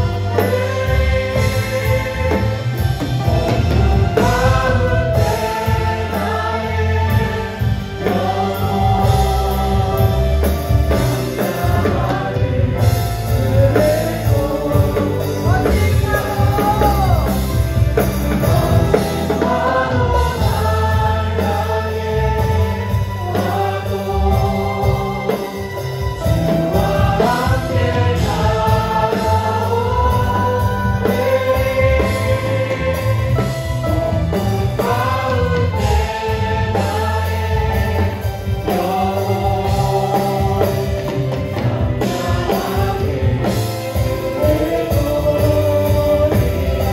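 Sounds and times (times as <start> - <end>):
group singing: 0.0 - 46.9.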